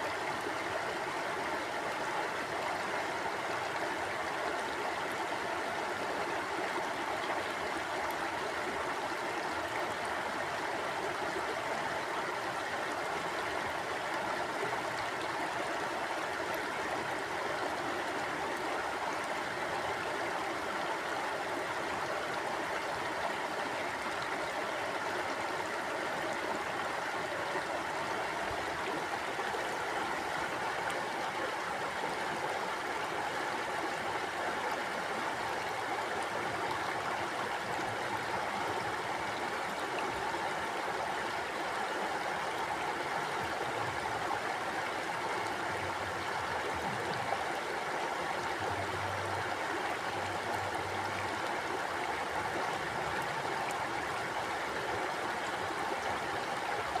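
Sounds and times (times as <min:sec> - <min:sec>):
stream gurgling over rocks: 0:00.0 - 0:57.0.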